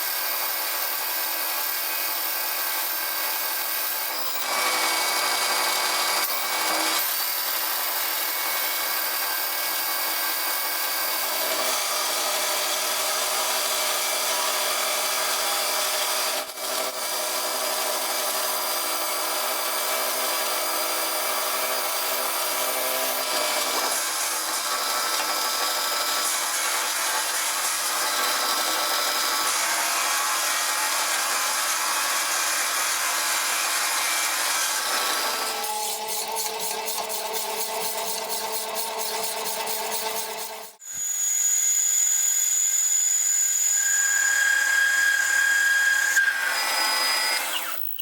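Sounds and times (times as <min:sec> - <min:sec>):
power tool motor whine: 0:00.0 - 0:48.0.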